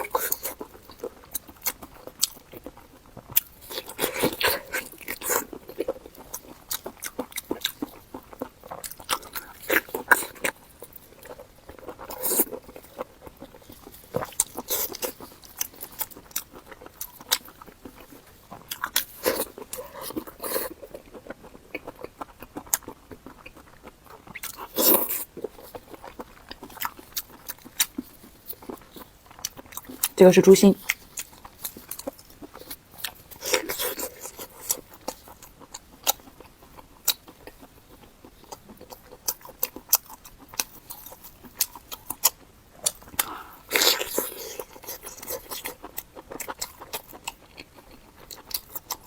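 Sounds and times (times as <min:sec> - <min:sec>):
chewing crunchy cartilage: 0:00.0 - 0:49.0.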